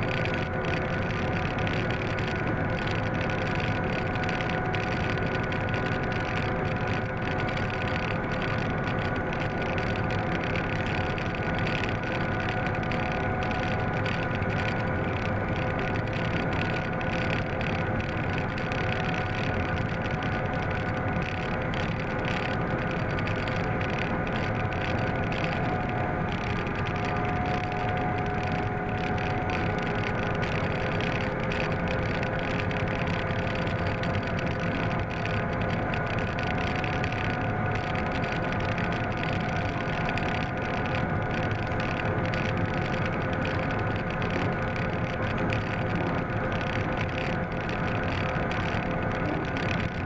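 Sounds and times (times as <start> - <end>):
locomotive engine drone: 0.0 - 50.0
running gear rumbling on track: 0.0 - 50.0.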